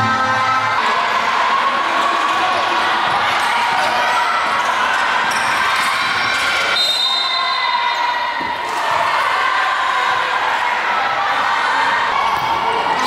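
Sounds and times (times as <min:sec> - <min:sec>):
crowd voices din: 0:00.0 - 0:13.0.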